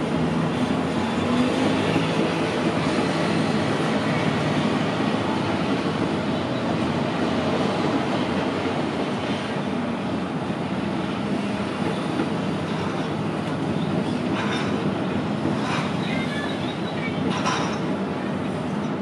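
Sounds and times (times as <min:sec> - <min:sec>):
diesel locomotive engine: 0:00.0 - 0:19.0
train rolling on rails: 0:00.0 - 0:19.0.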